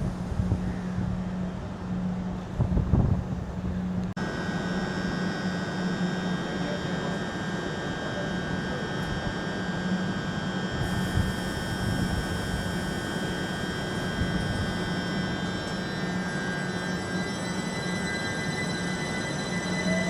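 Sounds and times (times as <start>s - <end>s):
train running with high whines: 0.0s - 20.0s.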